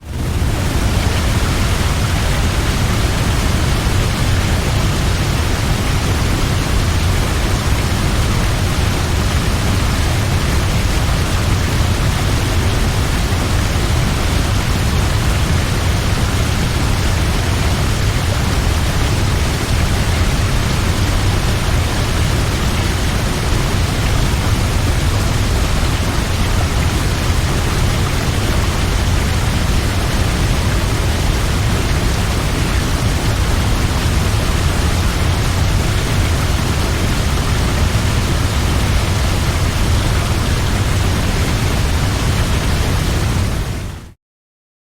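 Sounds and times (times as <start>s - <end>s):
waterfall rushing: 0.1s - 44.0s.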